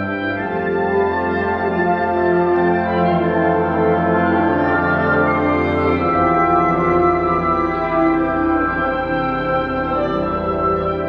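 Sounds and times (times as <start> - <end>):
wind band playing chords: 0.0 - 11.0.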